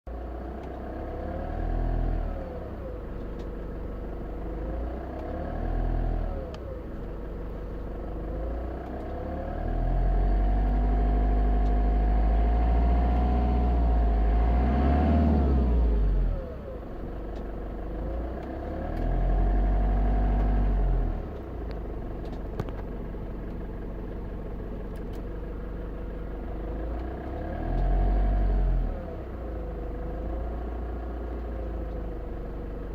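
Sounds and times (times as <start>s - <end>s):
strange engine noise: 0.1s - 32.9s
diesel engine revving: 0.6s - 32.9s.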